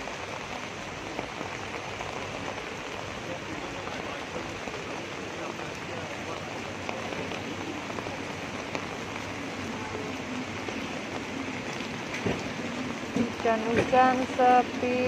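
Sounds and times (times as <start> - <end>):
heavy rain on wet street: 0.0 - 15.0.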